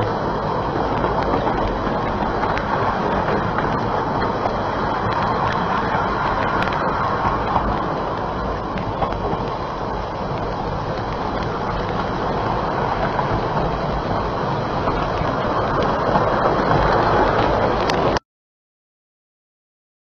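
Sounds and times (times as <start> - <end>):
steam train running: 0.0 - 18.2.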